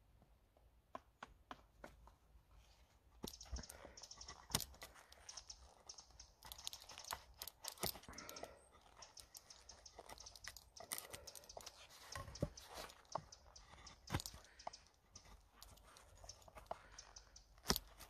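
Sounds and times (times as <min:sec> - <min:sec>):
chisel scraping and cracking wood: 0:03.2 - 0:18.0.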